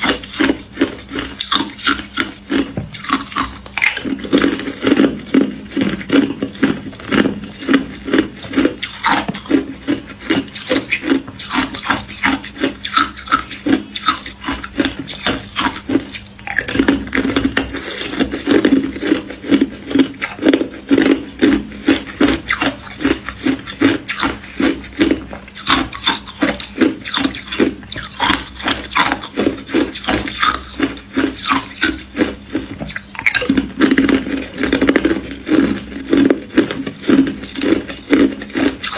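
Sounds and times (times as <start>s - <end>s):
ice crunching in mouth: 0.0s - 38.9s.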